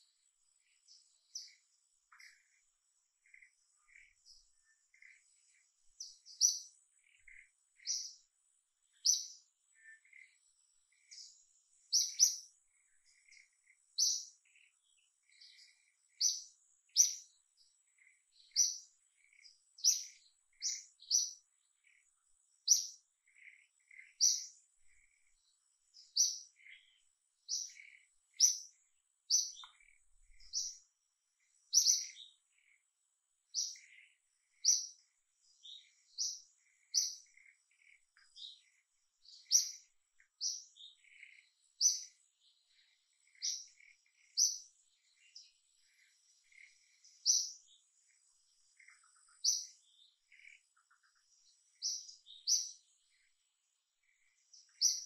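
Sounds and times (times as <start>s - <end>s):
lower bird calls: 0.0s - 55.0s.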